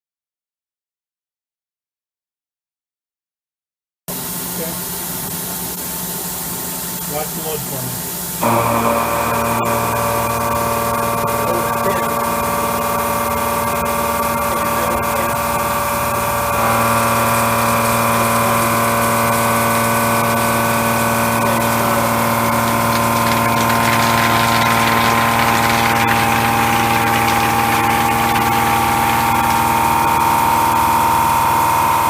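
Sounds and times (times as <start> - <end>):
milling machine whine: 4.1 - 32.0.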